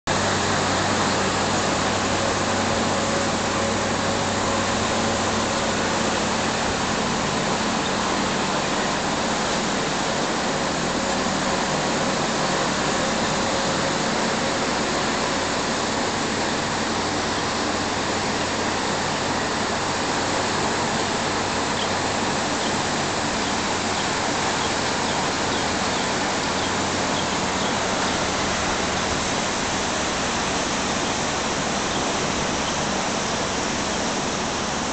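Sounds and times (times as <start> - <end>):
air conditioner fan rushing: 0.1 - 34.9.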